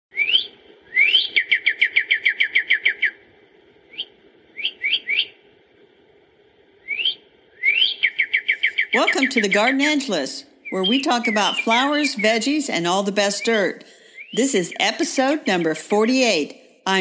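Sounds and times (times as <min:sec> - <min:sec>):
songbird singing: 0:00.1 - 0:05.5, 0:06.8 - 0:17.0.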